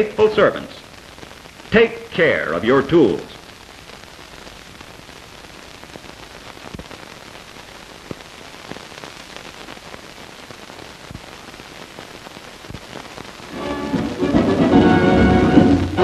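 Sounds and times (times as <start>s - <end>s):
film soundtrack hiss with crackles: 0.0s - 16.0s.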